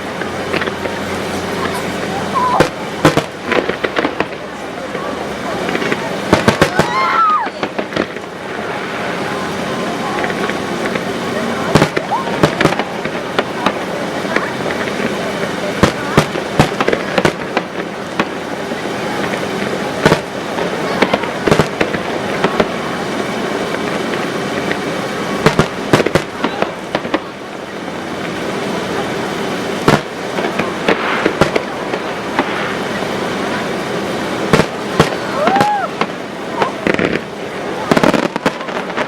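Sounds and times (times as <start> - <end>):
firework bangs and crackles: 0.0 - 39.0.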